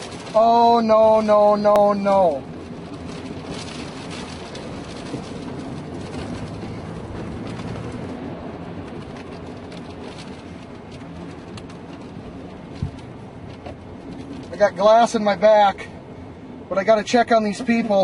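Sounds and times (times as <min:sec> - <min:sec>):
tornado winds rumbling: 0:00.0 - 0:18.0.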